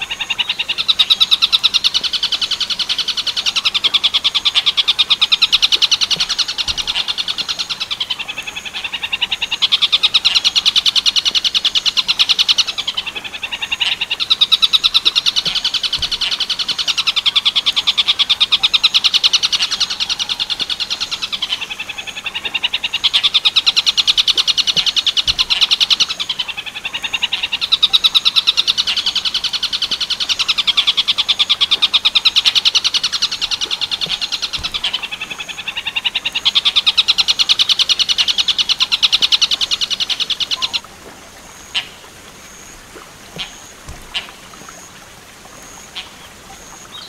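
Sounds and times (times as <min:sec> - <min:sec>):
kingfisher rattling call: 0:00.0 - 0:40.9
faint bird chirps and ticks: 0:00.0 - 0:47.0.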